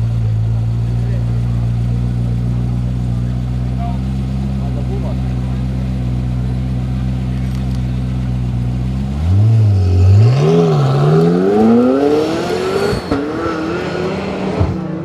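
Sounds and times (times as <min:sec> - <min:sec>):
car engine revving and accelerating: 0:01.1 - 0:15.0.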